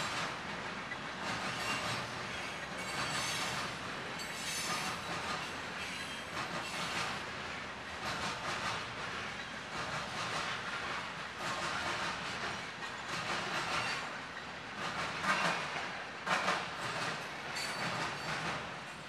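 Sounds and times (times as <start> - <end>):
freight train wheels rumbling: 0.0 - 19.0
clacks over rail joints: 0.1 - 7.2, 7.9 - 19.0.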